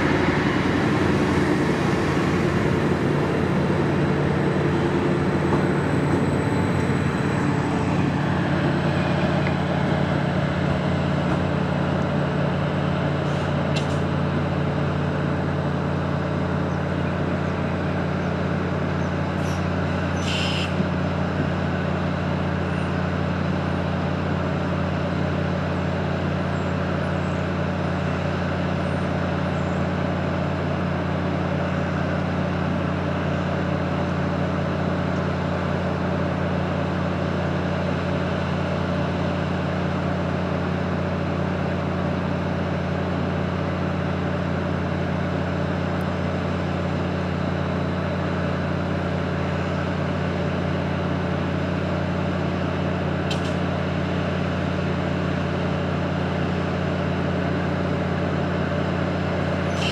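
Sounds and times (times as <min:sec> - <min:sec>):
train engine idling: 0:00.0 - 0:59.9.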